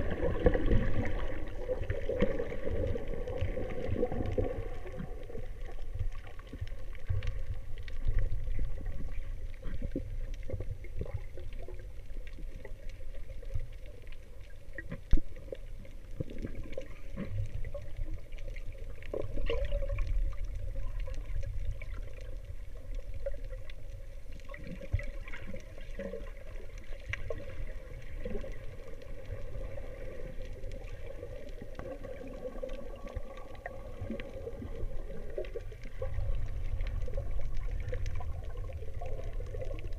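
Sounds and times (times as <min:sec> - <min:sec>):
muffled underwater rumble: 0:00.0 - 0:39.9
faint clicks: 0:00.4 - 0:39.9.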